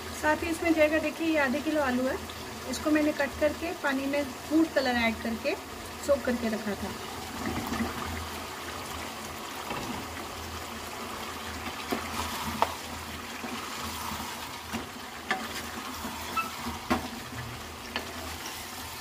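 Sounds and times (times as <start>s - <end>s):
food sizzling and bubbling in pot: 0.0s - 19.0s.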